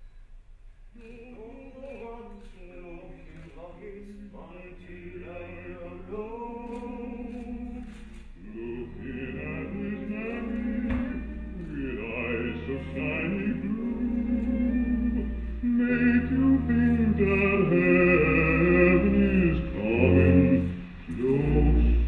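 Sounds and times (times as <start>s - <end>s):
man singing slow tune: 1.0s - 22.0s.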